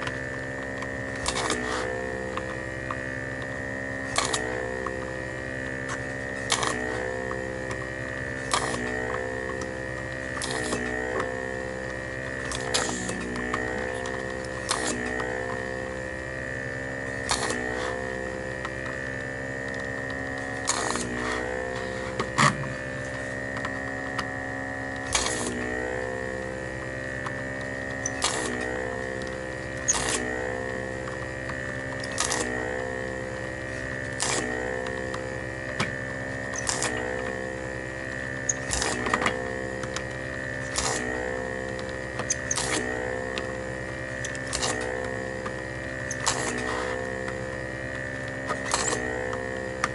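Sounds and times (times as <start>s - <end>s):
vacuum pump humming: 0.0s - 49.9s.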